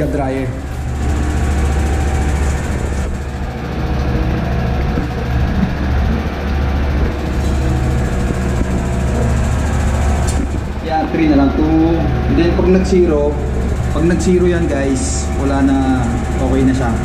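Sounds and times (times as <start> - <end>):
washing machine drum spinning: 0.0 - 17.0.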